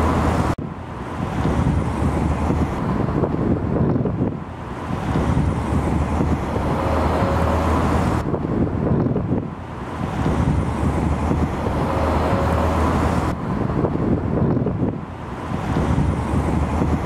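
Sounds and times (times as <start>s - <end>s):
road traffic rumble: 0.0s - 17.0s
wind: 0.0s - 17.0s.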